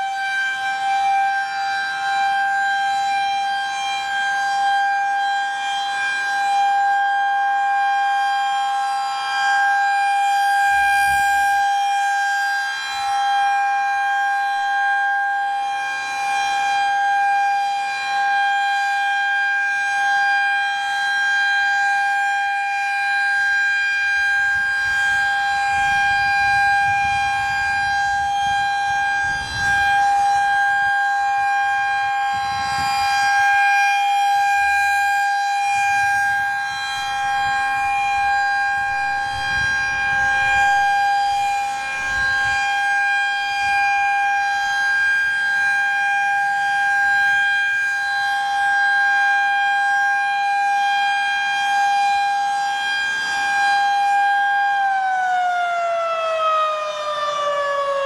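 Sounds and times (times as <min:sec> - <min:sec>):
rotating siren steady tone: 0:00.0 - 0:58.0.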